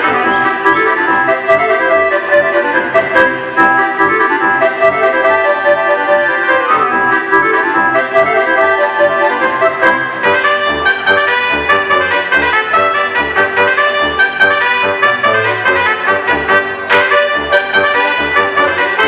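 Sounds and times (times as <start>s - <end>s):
accordion folk dance music: 0.0s - 19.0s.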